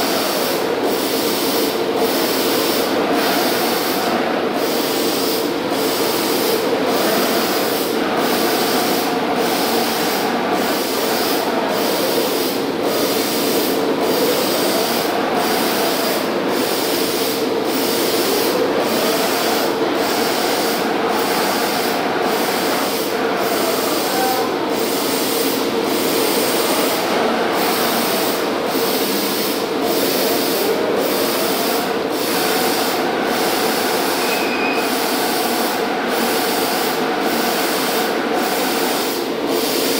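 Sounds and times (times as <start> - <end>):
laser cutter gas jet hissing: 0.0 - 39.9.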